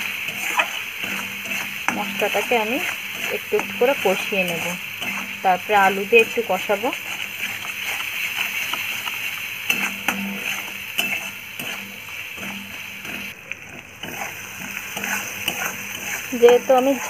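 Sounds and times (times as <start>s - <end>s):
faint steady hiss: 0.0s - 17.0s
metal spatula scraping a pan: 0.0s - 17.0s.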